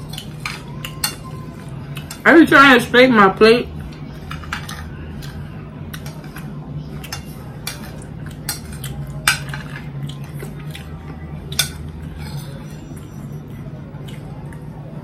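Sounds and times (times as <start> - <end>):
cutlery scraping on plate: 0.0 - 2.3, 3.9 - 10.9, 11.5 - 14.2
steady low hum: 0.0 - 15.0.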